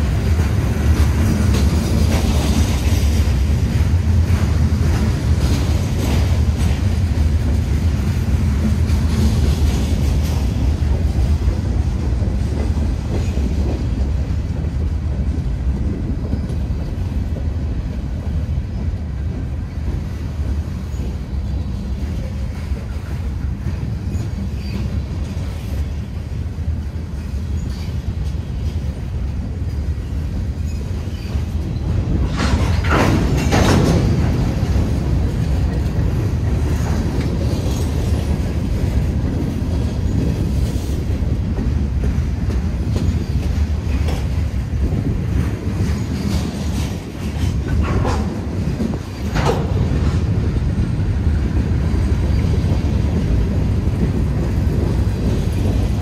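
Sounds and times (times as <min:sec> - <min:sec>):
freight train rumbling past: 0:00.0 - 0:56.0
train wheel clatter: 0:00.0 - 0:56.0.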